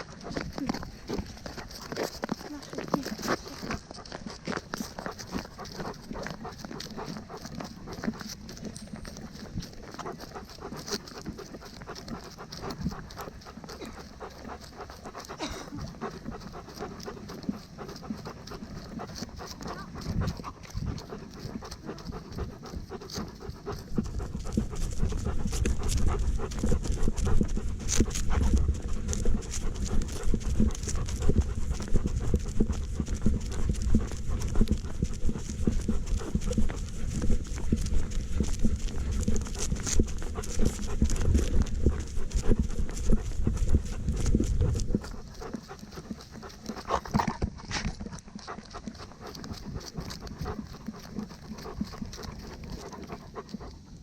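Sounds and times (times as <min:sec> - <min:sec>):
dog panting: 0:00.0 - 0:54.0
rhythmic footsteps: 0:00.0 - 0:54.0.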